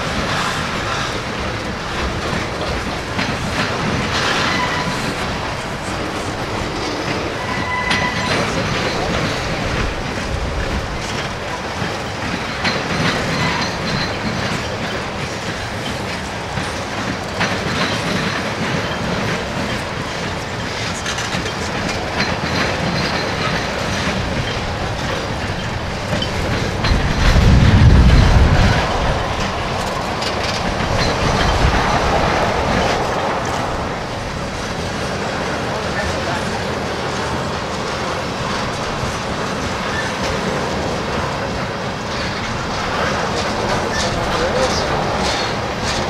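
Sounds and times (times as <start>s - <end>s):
train wheels clicking over rail joints: 0.0s - 46.0s.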